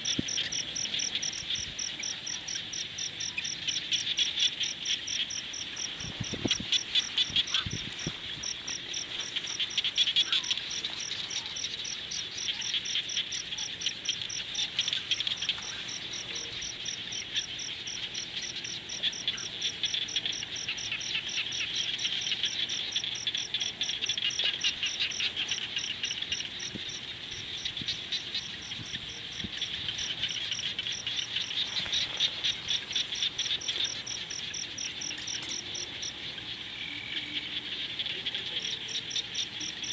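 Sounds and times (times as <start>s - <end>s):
insects pulsing: 0.0s - 39.9s
shrill trilling of frogs: 0.0s - 39.9s.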